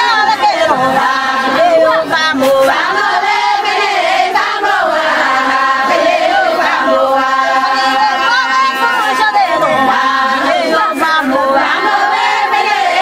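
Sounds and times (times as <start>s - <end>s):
singing voices: 0.0s - 13.0s.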